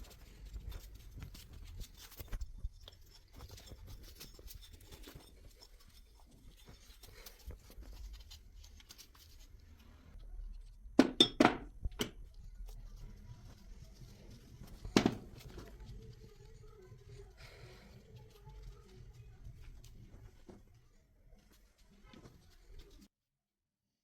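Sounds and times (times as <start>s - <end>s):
handling and rustling: 0.0s - 23.1s.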